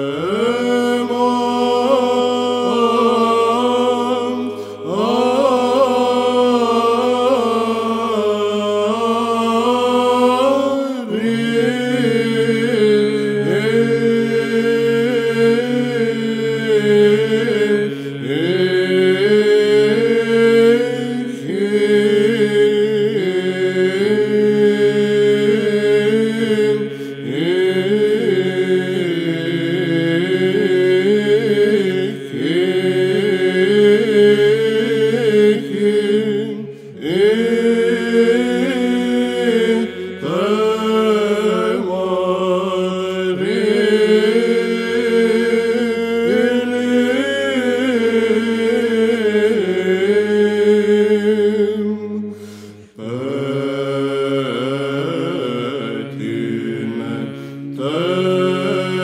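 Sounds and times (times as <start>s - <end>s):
man chanting melismatic line: 0.0s - 59.0s.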